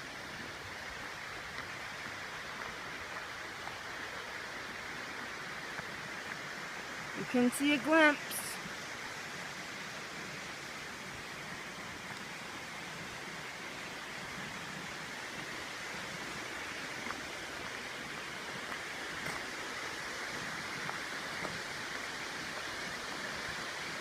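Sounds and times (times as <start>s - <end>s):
waterfall and creek rushing: 0.0s - 24.0s.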